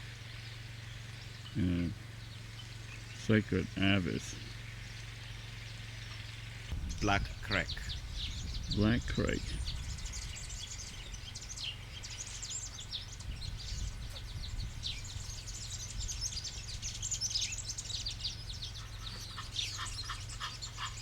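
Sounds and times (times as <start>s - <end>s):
low steady rumble: 0.0s - 21.0s
small birds chirping chorus: 0.0s - 21.0s.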